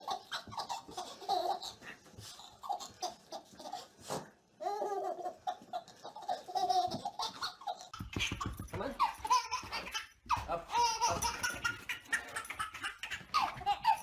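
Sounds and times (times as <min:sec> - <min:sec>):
baby laughing: 0:00.0 - 0:04.0, 0:04.6 - 0:14.0.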